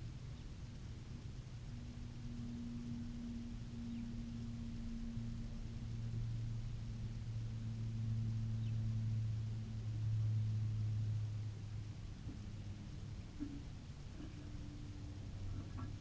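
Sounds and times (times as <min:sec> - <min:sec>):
distant vehicle engine hum: 0:00.0 - 0:16.0.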